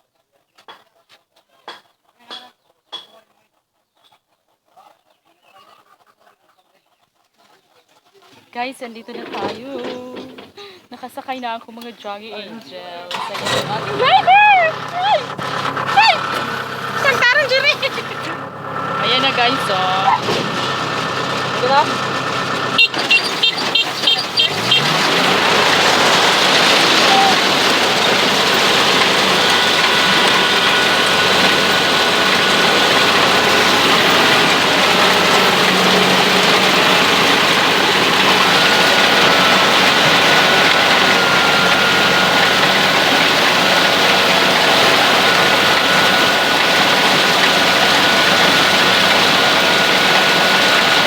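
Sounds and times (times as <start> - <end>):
harvester engine and machinery: 8.6 - 51.0.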